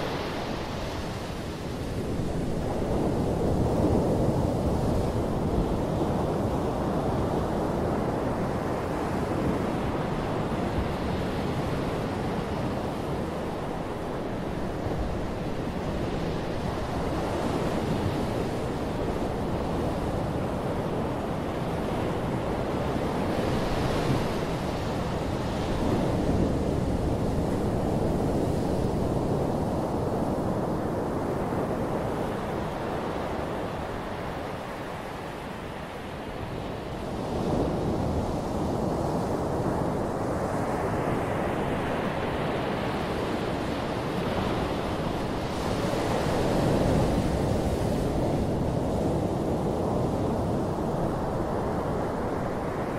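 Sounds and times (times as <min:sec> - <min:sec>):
waves washing up a beach: 0:00.0 - 0:52.9.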